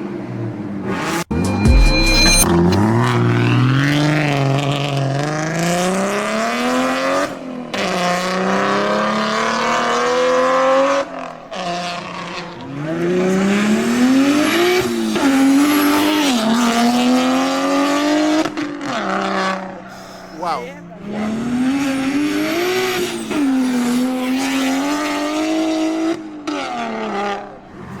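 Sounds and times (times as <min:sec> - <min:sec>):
car engine accelerating hard: 0:00.0 - 0:19.9, 0:20.8 - 0:28.0.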